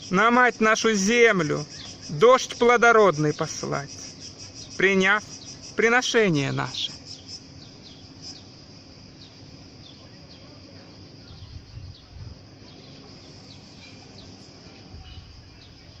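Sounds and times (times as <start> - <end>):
small birds chirping: 0.0 - 16.0
steady high hiss: 0.0 - 16.0.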